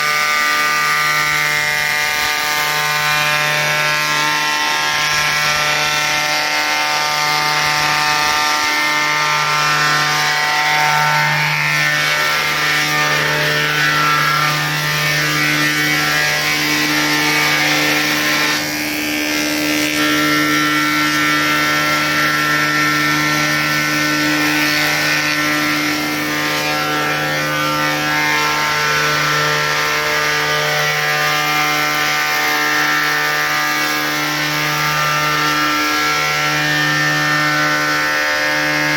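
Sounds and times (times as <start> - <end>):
planer machine whine: 0.0 - 38.9.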